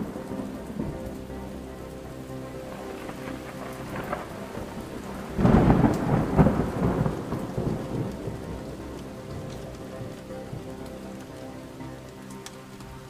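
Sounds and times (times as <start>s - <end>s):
steady rain: 0.0s - 13.0s
thunder rumble: 0.0s - 13.0s.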